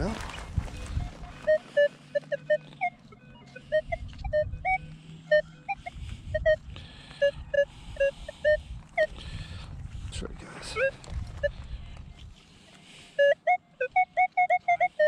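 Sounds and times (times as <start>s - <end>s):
metal detector beeping: 0.7s - 9.6s, 10.6s - 15.0s.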